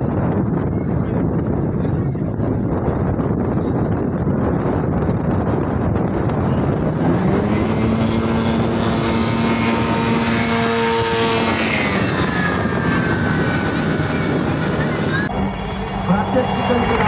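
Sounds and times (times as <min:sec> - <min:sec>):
propeller engine running hard: 0:00.0 - 0:17.0.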